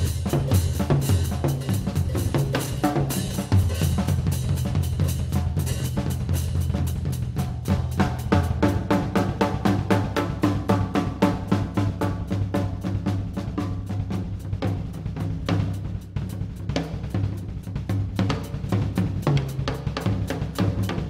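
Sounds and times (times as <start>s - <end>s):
drum kit playing: 0.0s - 21.0s.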